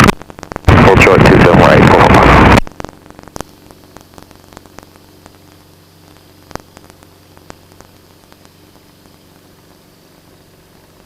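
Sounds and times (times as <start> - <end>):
low radio hum: 0.0 - 11.0.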